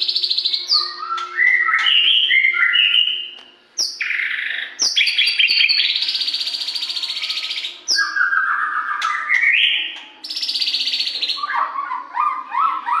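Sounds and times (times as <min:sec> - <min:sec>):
bird singing whistled phrases: 0:00.0 - 0:13.0.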